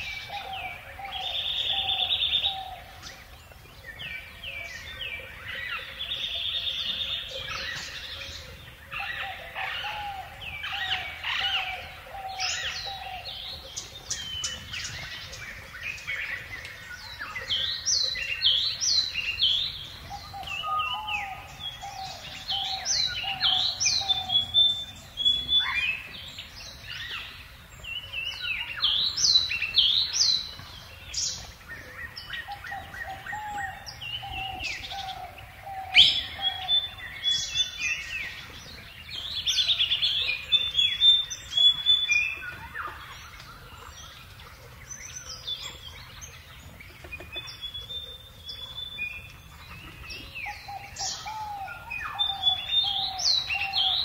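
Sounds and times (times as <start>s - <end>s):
birds chirping and singing: 0.0s - 54.0s
low repeated bird call: 0.0s - 54.0s.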